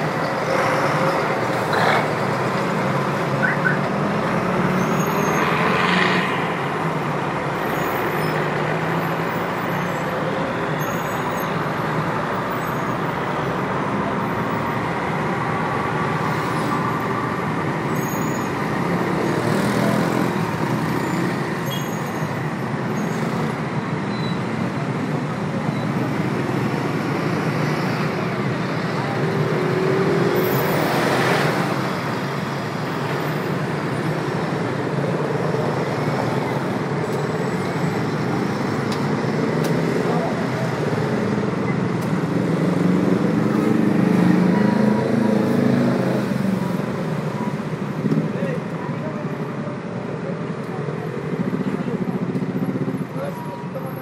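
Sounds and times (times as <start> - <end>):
roar of city traffic: 0.0 - 54.0.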